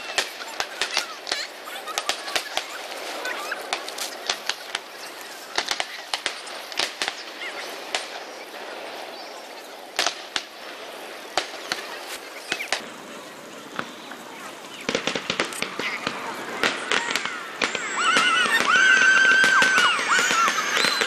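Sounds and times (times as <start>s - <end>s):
fireworks bursting: 0.0s - 21.0s
steady background noise: 0.0s - 21.0s.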